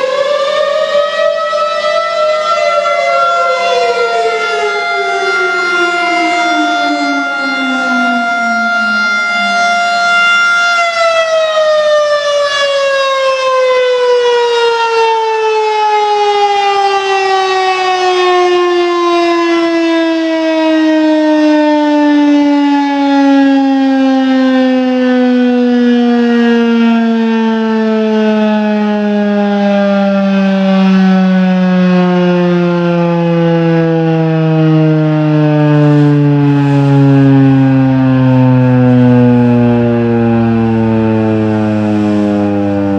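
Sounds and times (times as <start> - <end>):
warning siren winding down: 0.0 - 42.9.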